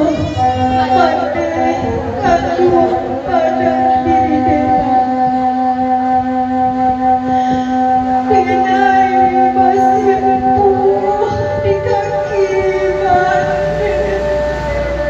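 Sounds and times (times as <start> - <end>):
long held note: 0.0 - 15.0
wavering melody line: 0.0 - 15.0.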